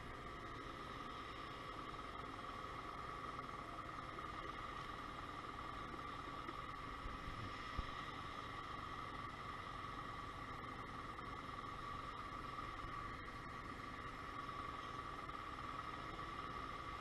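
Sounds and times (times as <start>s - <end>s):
scooter engine idling: 0.0s - 17.0s.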